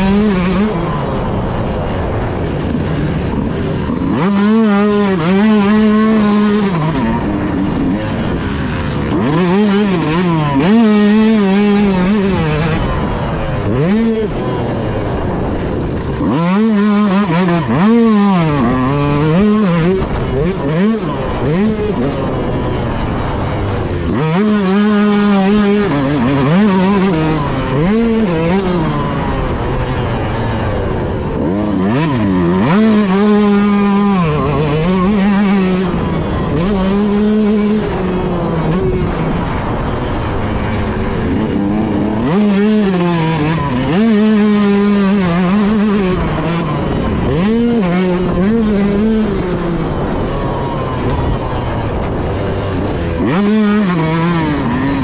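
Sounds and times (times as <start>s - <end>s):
continuous rushing noise: 0.0s - 55.0s
dirt bike engine revving: 0.0s - 55.0s.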